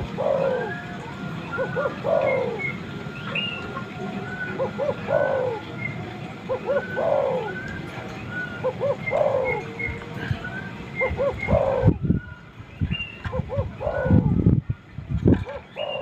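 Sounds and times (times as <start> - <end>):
dove cooing: 0.0 - 12.3, 13.2 - 14.6, 15.3 - 16.0
small birds chirping: 0.0 - 14.3, 15.6 - 16.0.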